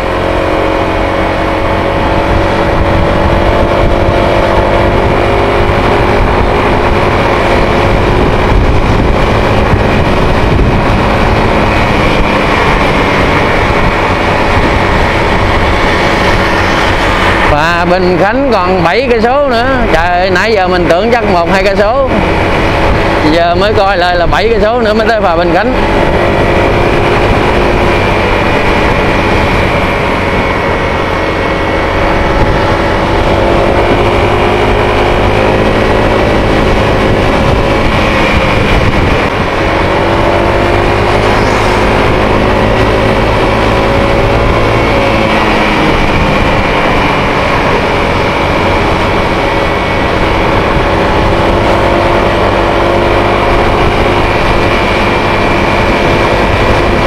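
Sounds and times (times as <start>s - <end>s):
vehicle engine running: 0.0s - 57.0s
wind rushing over microphone: 0.0s - 57.0s.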